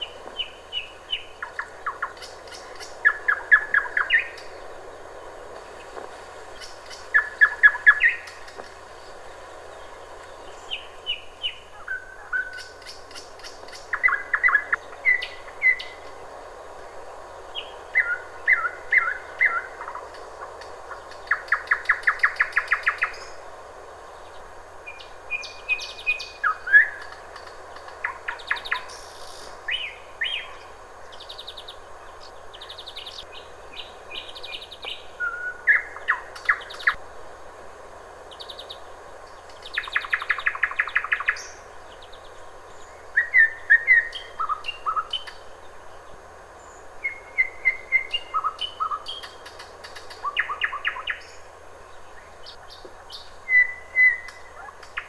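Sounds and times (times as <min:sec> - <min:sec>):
nightingale singing: 0:00.0 - 0:16.4, 0:17.0 - 0:37.0, 0:38.2 - 0:55.0.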